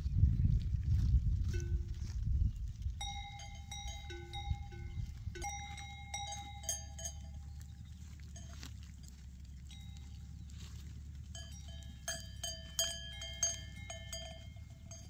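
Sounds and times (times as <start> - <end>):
wind rumbling on microphone: 0.0 - 15.0
goat bells clanking: 1.4 - 15.0.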